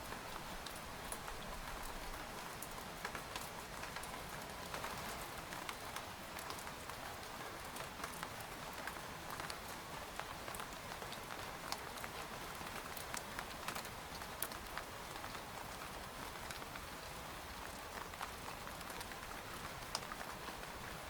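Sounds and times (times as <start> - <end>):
rain on tent fabric: 0.0 - 21.0.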